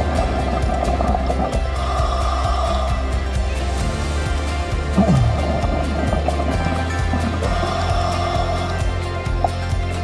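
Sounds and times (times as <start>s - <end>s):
music with fast beat: 0.0s - 10.0s.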